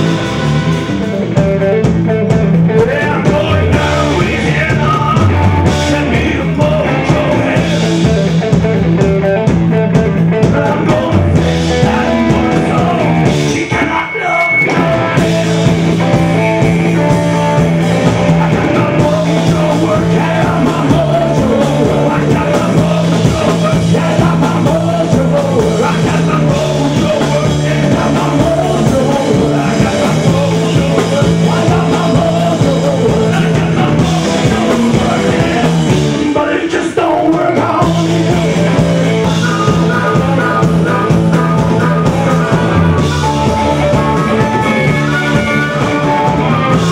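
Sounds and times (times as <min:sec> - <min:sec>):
bass guitar: 0:00.0 - 0:46.9
drums: 0:00.0 - 0:46.9
electric guitar: 0:00.0 - 0:46.9
person singing: 0:02.6 - 0:08.6, 0:10.0 - 0:46.9.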